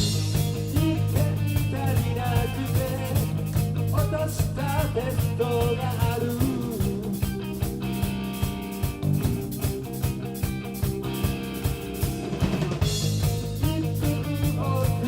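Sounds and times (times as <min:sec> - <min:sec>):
bass line: 0:00.0 - 0:15.0
drum kit beat: 0:00.0 - 0:15.0
live rock band playing: 0:00.0 - 0:15.0.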